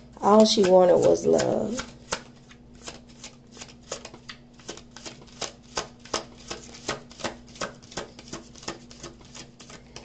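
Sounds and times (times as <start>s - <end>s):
cards being shuffled: 0.5s - 10.0s.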